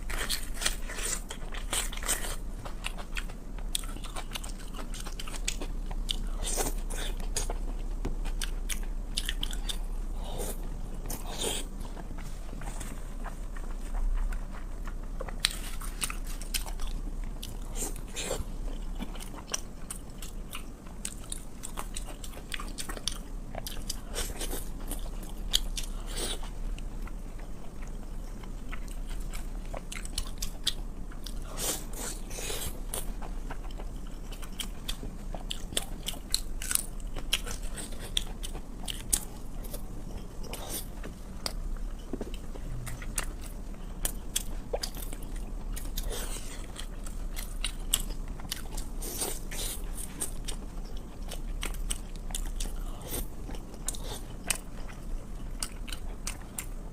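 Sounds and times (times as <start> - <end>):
close-miked chewing: 0.0 - 56.9.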